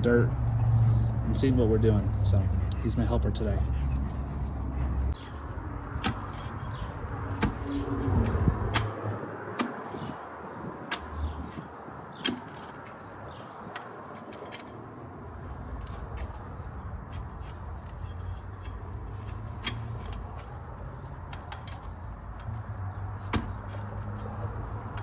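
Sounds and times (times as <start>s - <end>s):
digging tool scraping soil: 1.8s - 25.0s.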